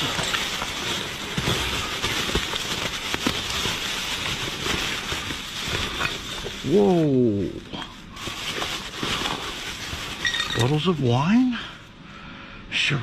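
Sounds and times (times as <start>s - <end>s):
plastic bags rustling: 0.0s - 12.1s.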